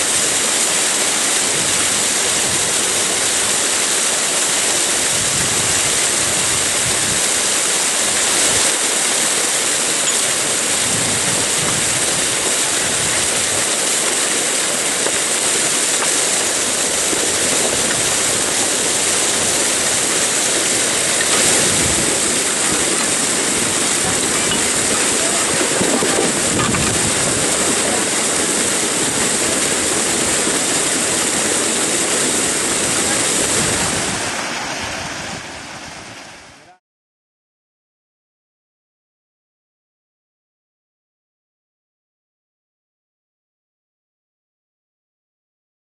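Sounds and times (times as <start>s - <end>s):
water pouring and cascading: 0.0s - 36.8s.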